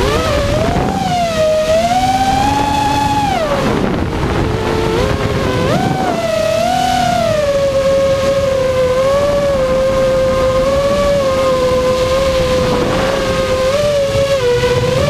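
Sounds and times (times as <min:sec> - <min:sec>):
drone motors whining: 0:00.0 - 0:15.0
wind and prop wash rushing: 0:00.0 - 0:15.0.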